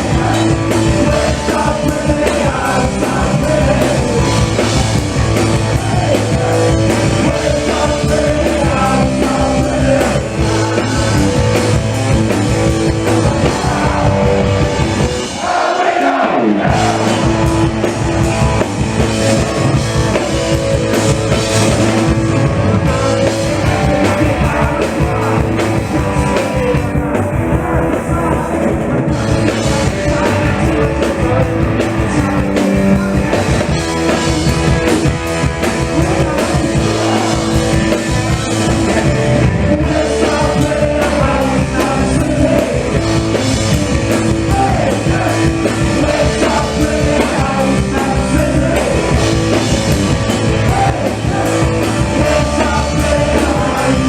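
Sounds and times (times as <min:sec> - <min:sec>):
shouted singing: 0:00.0 - 0:11.9, 0:12.8 - 0:19.6, 0:22.4 - 0:34.6, 0:35.8 - 0:43.5, 0:44.1 - 0:49.6, 0:50.3 - 0:54.0
bass guitar: 0:00.0 - 0:54.0
distorted electric guitars: 0:00.0 - 0:54.0
drums: 0:00.0 - 0:54.0.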